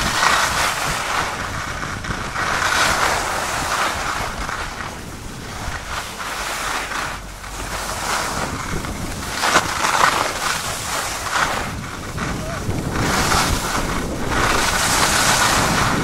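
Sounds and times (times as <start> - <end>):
edges scraping on packed snow: 0.0 - 16.0
wind rushing over microphone: 0.0 - 16.0.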